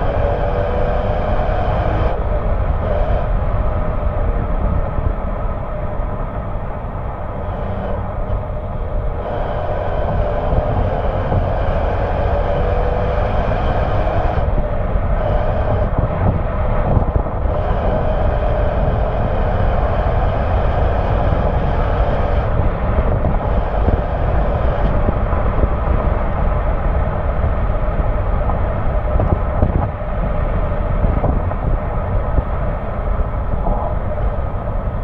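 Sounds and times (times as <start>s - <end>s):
car exhaust droning: 0.0s - 35.0s
road and wind rush: 0.0s - 35.0s.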